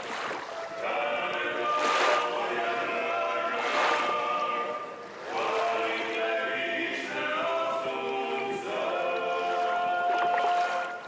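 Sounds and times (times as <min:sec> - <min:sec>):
choir singing long held notes: 0:00.6 - 0:11.0.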